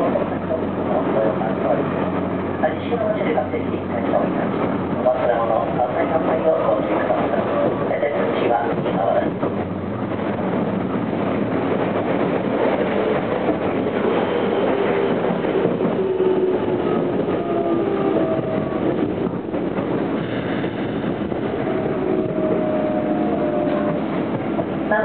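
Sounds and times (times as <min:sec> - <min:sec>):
train wheels running on rails: 0:00.0 - 0:25.0.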